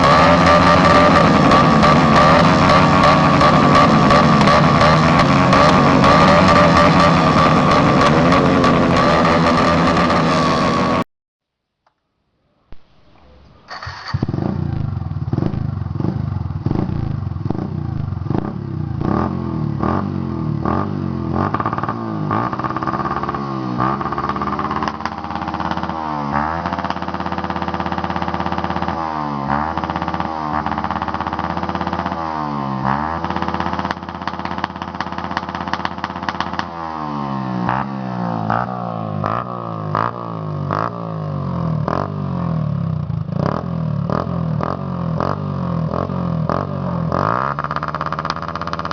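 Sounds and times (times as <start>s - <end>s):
motorcycle engine revving: 0.0s - 11.1s, 13.7s - 48.9s.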